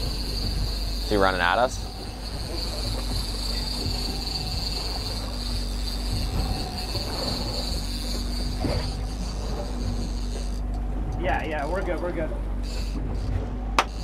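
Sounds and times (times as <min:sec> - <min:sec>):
boat motor rumbling with whine: 0:00.0 - 0:14.0.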